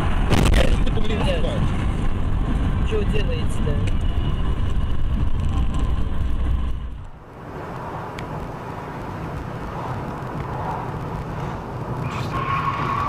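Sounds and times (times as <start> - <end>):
car road noise low rumble: 0.0 - 13.0.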